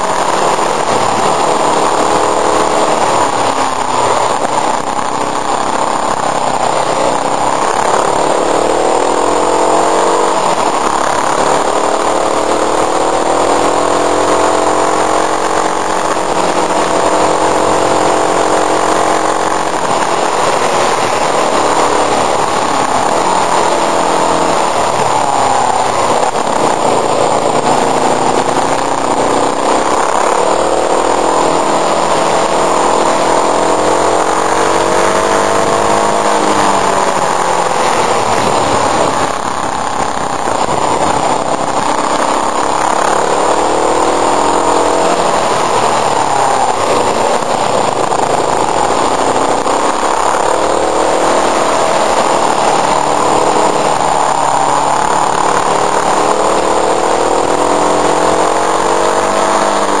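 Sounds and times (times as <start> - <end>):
motorcycle engine revving: 0.0 - 60.0.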